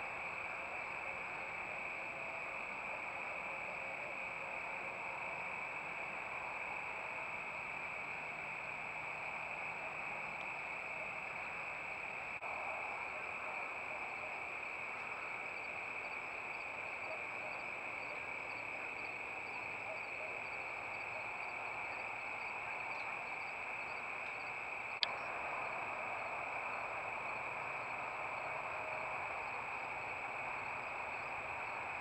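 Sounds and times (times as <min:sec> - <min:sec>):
night insect chorus: 0:00.0 - 0:32.0
ticking insect call: 0:00.0 - 0:32.0.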